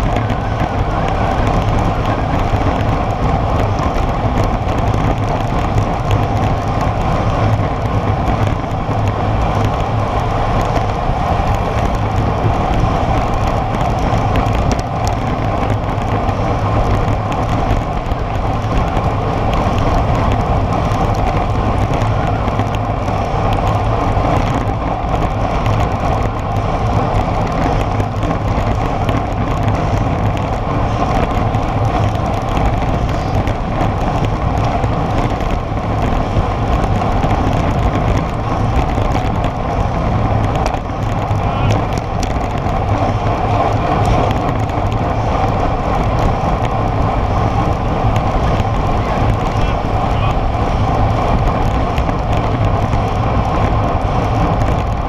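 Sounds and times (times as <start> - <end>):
bike tyre noise on asphalt: 0.0 - 55.0
wind rushing over microphone: 0.0 - 55.0.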